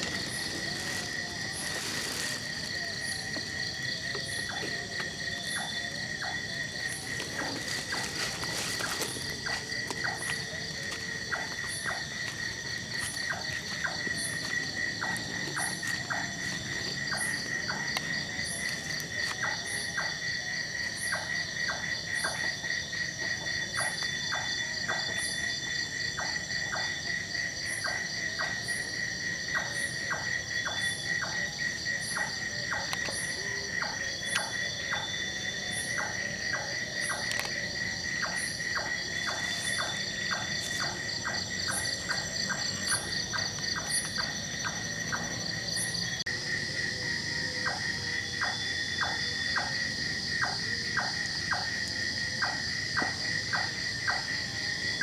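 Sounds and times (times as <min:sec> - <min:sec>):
high insect chirp: 0:00.0 - 0:55.0
insects pulsing trill: 0:00.0 - 0:55.0.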